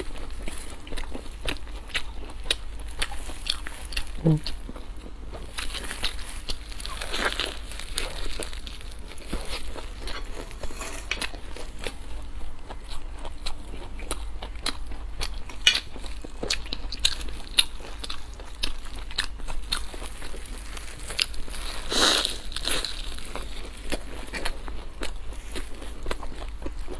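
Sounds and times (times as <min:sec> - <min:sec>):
chewing crisp buns: 0:00.0 - 0:26.9.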